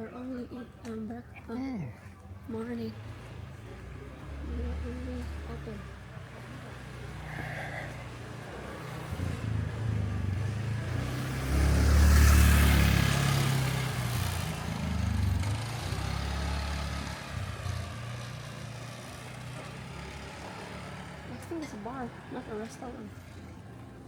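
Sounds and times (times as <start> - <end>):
street traffic: 0.0 - 24.0
motor vehicle passing close: 2.8 - 23.9.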